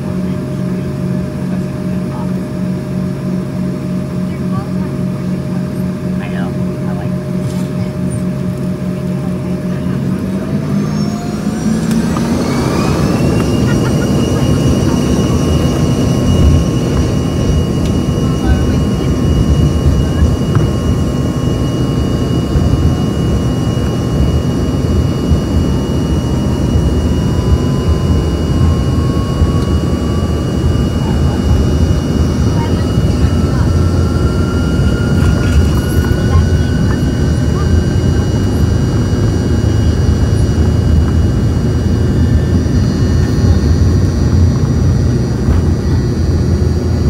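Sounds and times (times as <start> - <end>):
jet engines whining: 0.0 - 47.0
jet rolling rumble: 0.0 - 47.0.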